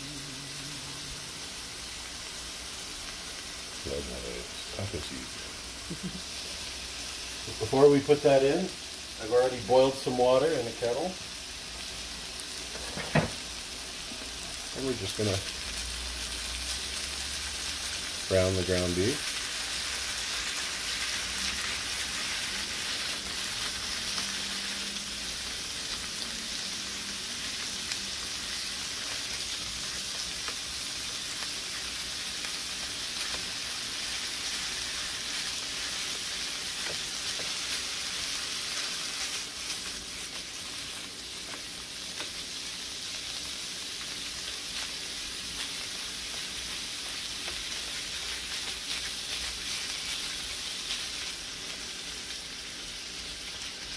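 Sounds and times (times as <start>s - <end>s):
meat sizzling in a frying pan: 0.0s - 53.9s.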